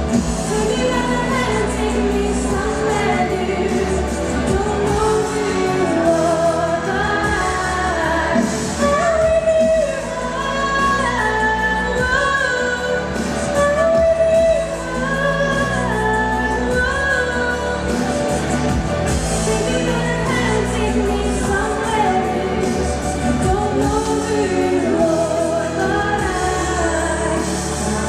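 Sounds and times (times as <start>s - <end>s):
backing track over loudspeakers: 0.0s - 28.0s
woman singing pop ballad: 0.0s - 28.0s.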